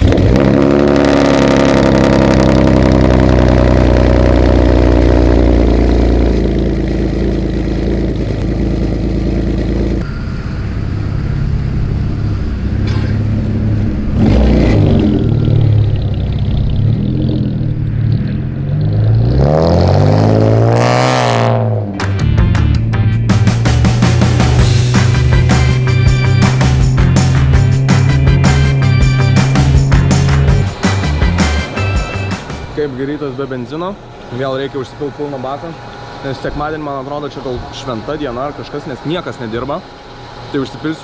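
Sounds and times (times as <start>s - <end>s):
car engine idling and revving: 0.0s - 41.0s.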